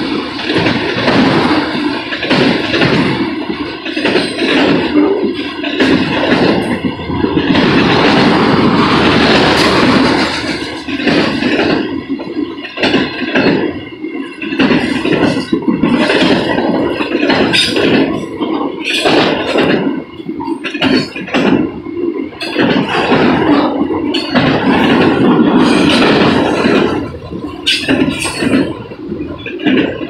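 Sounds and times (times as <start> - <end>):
freight train rumbling past: 0.0 - 30.0
wheels clacking on rail joints: 0.0 - 30.0.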